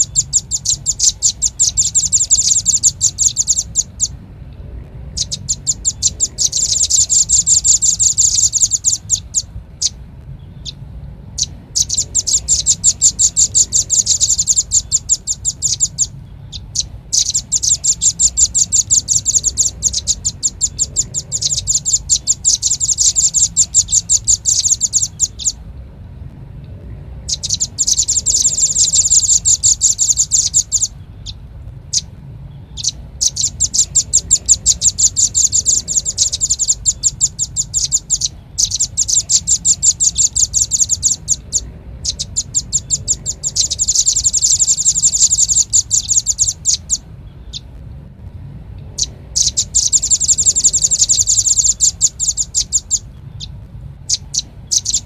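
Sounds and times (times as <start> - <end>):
bird chattering calls: 0.0 - 4.2, 5.0 - 25.6, 27.2 - 47.7, 48.9 - 55.0
faint low hum: 0.0 - 55.0.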